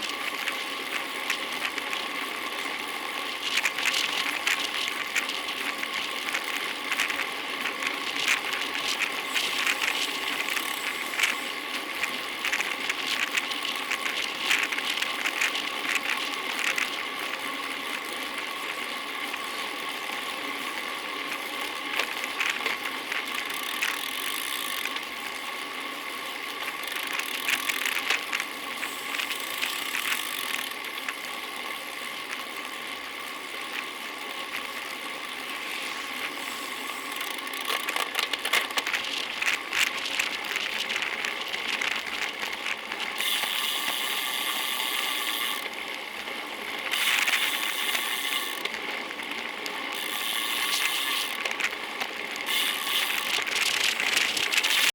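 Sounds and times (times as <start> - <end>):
bicycle freehub ratcheting: 0.0 - 54.9.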